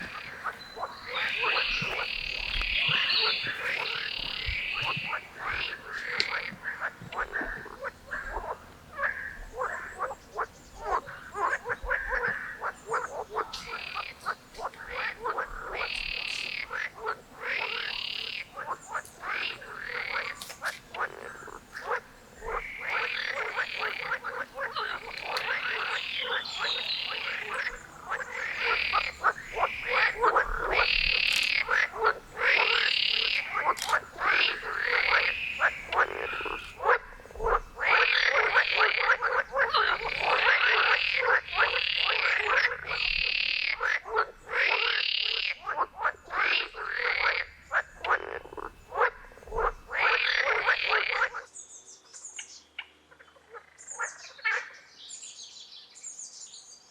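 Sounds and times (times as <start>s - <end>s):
frogs croaking: 0.0s - 51.5s, 52.3s - 54.9s.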